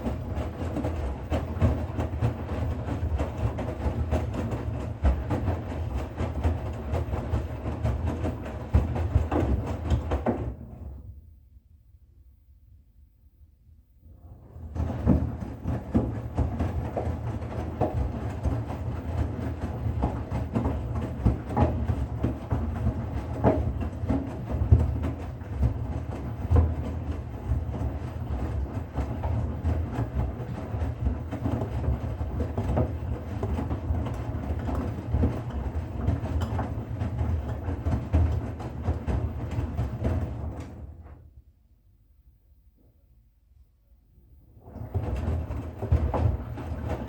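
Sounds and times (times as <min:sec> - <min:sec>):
drum knocking and clicking: 0:00.0 - 0:10.7, 0:14.7 - 0:41.2, 0:44.7 - 0:47.0
washing machine rumbling: 0:00.0 - 0:11.2, 0:14.0 - 0:41.4, 0:44.4 - 0:47.0.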